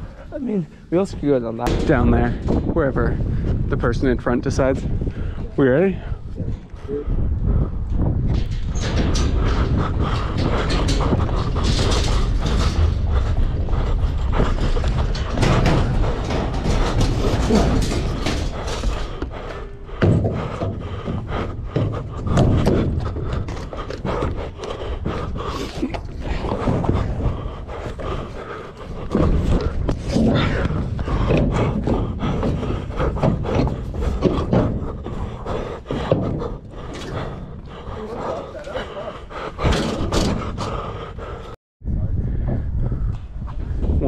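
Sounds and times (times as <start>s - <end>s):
footsteps on steel grating: 0.0s - 41.6s
wind buffeting microphone: 0.0s - 44.0s.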